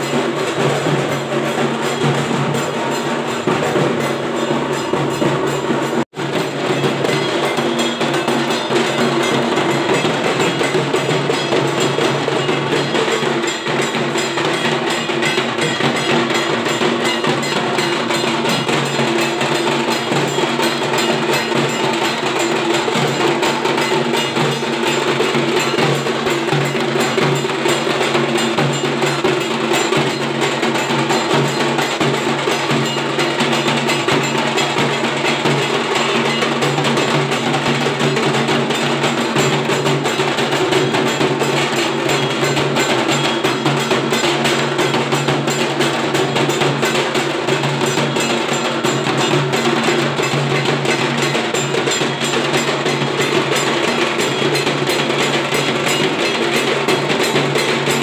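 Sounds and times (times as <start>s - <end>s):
drums beating rhythm: 0.0s - 58.0s.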